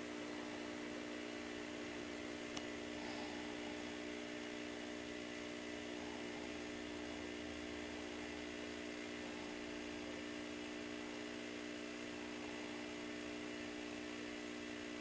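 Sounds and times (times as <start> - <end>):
electrical hum with hiss: 0.0 - 15.0.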